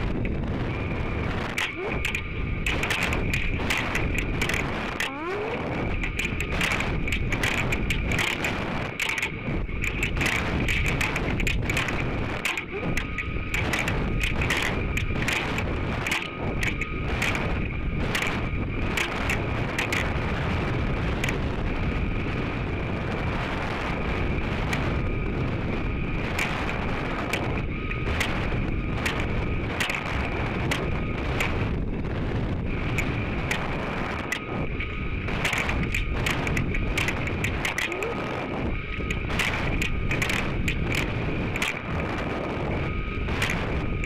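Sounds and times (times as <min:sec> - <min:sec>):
wind rushing on microphone: 0:00.0 - 0:44.0
clicks and rattles: 0:01.3 - 0:21.5, 0:26.1 - 0:31.9, 0:32.6 - 0:44.0.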